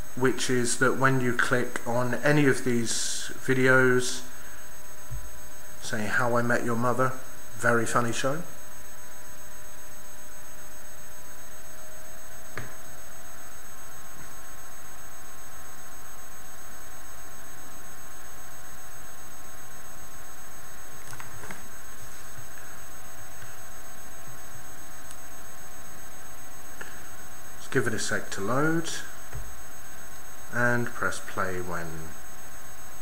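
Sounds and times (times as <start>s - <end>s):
background hiss: 0.0s - 33.0s
faint high-pitched whining tones: 0.0s - 33.0s.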